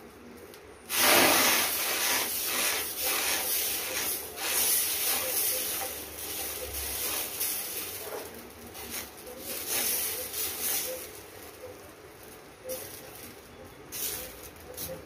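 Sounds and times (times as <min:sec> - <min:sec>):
batter sizzling on hot pan: 0:00.9 - 0:15.0.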